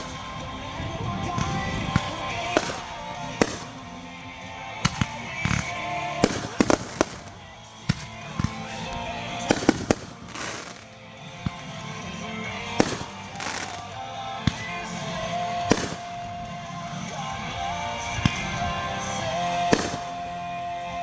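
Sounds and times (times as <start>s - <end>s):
background music: 0.0s - 21.0s
fireworks bangs: 0.0s - 21.0s.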